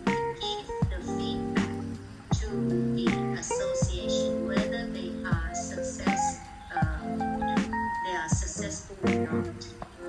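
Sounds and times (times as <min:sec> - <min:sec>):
instrumental music with light beat: 0:00.0 - 0:10.0.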